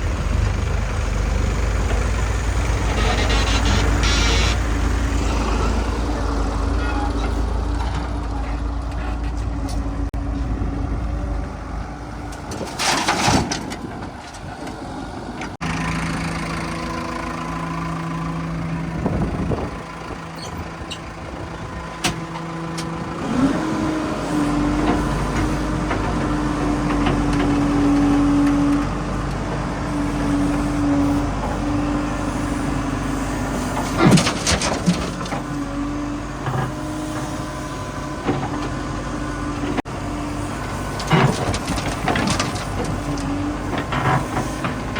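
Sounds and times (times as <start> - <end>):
heavy vehicle engine running: 0.0 - 44.9.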